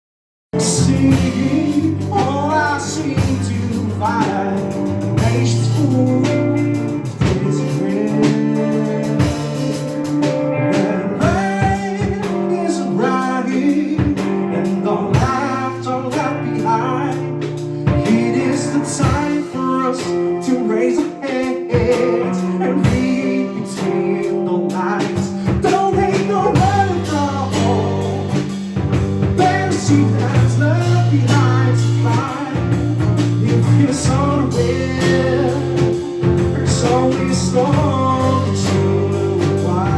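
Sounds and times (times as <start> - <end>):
drums: 0.5 - 39.9
guitar: 0.5 - 39.9
person singing: 0.6 - 39.9.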